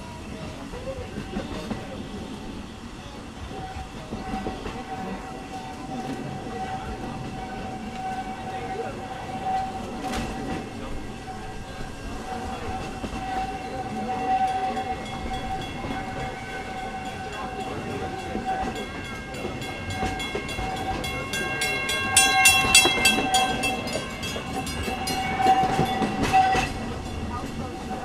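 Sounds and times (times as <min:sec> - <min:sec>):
steam train running: 0:00.0 - 0:28.0.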